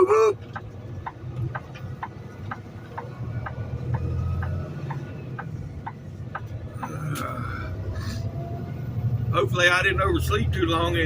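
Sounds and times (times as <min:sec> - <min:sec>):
truck engine rumble: 0:00.0 - 0:11.0
turn signal ticking: 0:00.0 - 0:11.0.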